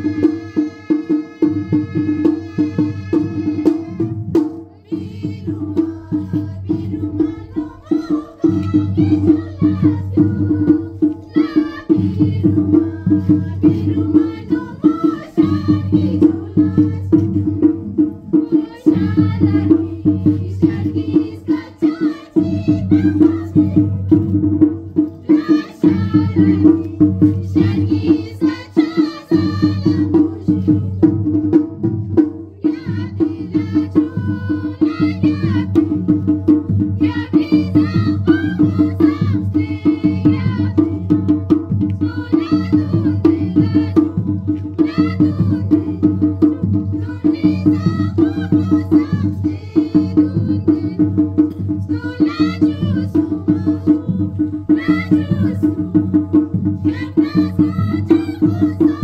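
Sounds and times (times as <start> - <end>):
drums steady beat: 0.0 - 59.0.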